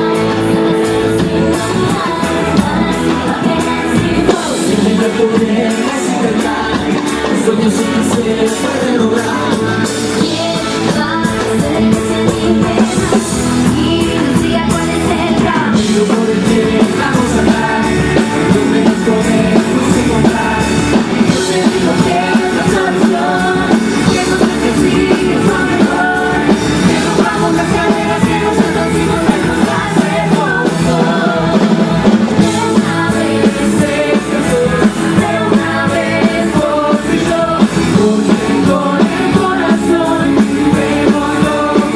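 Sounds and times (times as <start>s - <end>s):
live rock-pop band with singer: 0.0s - 41.9s.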